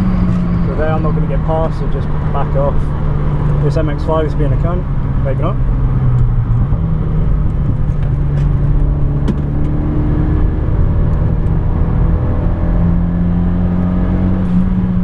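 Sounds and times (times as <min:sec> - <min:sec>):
car engine running: 0:00.0 - 0:15.0
road and tyre noise: 0:00.0 - 0:15.0.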